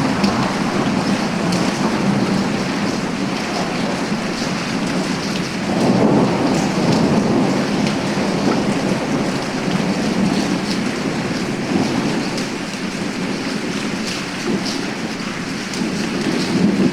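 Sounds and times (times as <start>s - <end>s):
low roll of thunder: 0.0s - 16.9s
steady rain: 0.0s - 16.9s.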